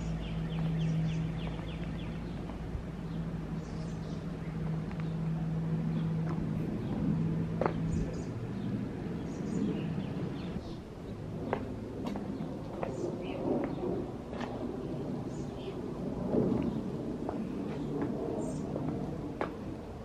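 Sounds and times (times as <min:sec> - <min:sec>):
songbirds chirping: 0:00.0 - 0:20.0
steady low hum: 0:00.0 - 0:20.0.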